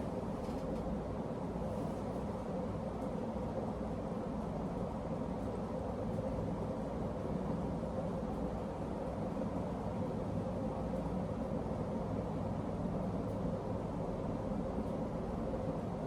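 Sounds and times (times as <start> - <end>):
ceiling fan air rush: 0.0 - 16.0.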